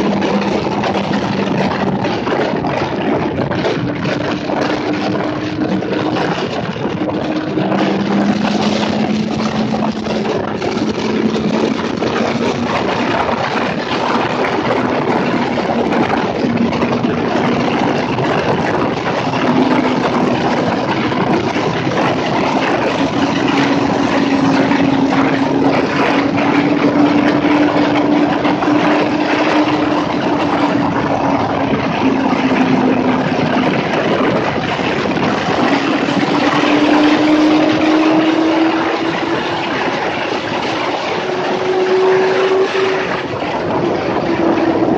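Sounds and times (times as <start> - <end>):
motorcycle engine drone: 0.0 - 44.9
wind rush on microphone: 0.0 - 44.9.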